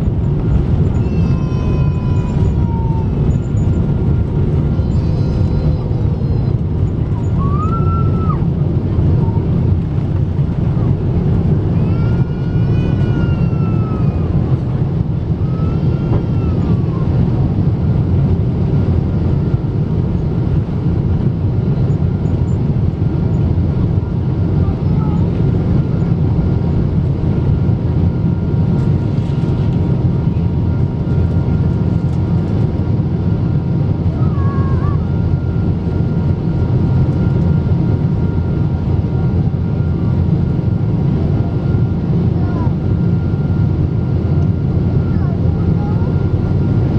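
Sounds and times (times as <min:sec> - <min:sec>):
aircraft cabin engine roar: 0:00.0 - 0:46.9.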